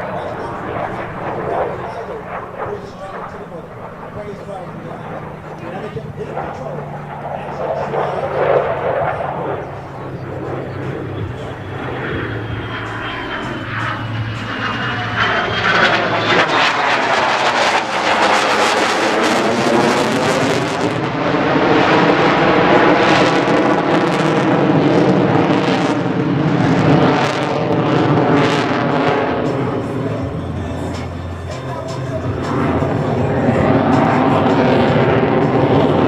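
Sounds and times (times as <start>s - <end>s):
jet engines roaring in flyby: 0.0s - 36.0s.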